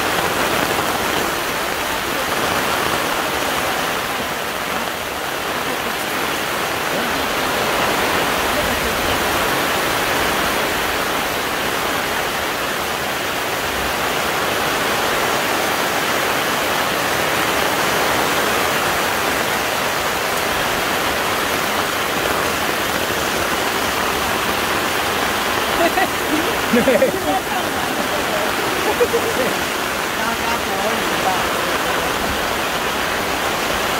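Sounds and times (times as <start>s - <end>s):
heavy rain on a canopy: 0.0s - 33.9s.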